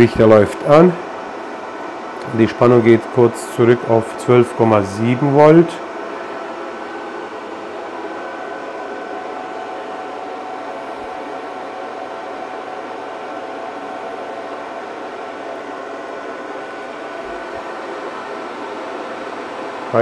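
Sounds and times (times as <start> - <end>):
power inverter rushing noise: 0.0 - 20.0.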